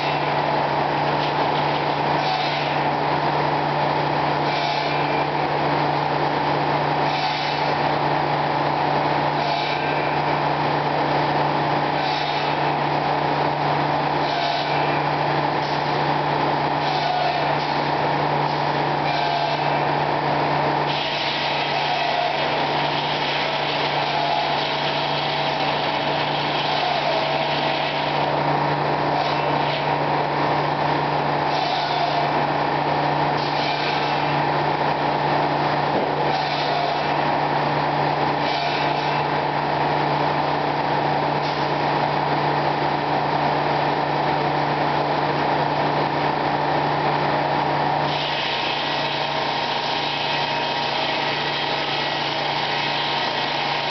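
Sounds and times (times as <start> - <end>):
sawmill machinery humming: 0.0 - 53.9.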